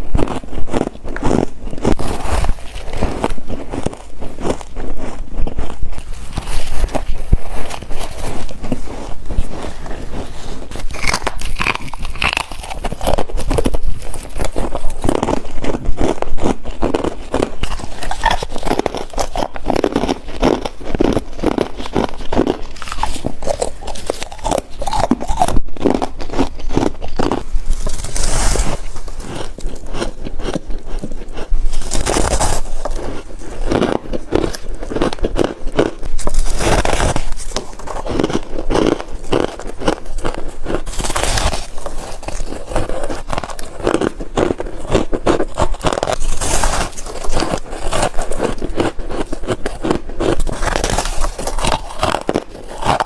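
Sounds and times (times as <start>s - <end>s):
crunchy chewing of frost: 0.0s - 53.0s.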